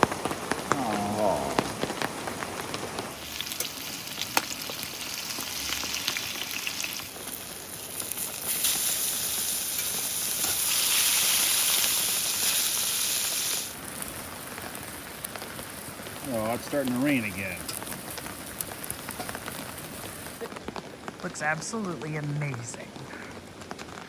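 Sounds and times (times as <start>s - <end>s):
food sizzling in a pan: 0.8s - 20.6s.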